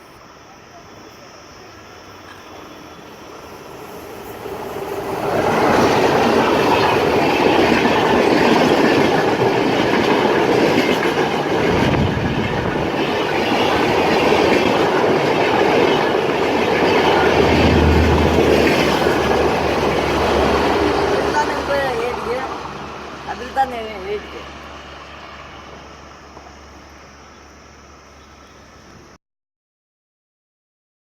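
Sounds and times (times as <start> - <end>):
train rumbling past: 0.0 - 29.2.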